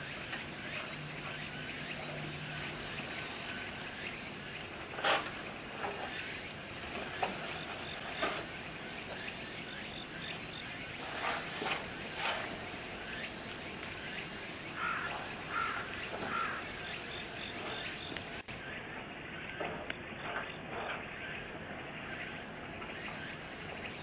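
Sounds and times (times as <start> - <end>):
steady high hum: 0.0 - 24.0.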